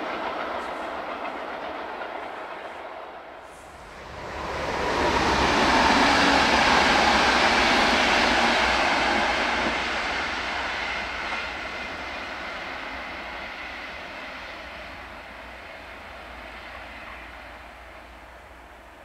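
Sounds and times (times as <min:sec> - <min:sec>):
passenger train passing at speed: 0:00.0 - 0:19.0.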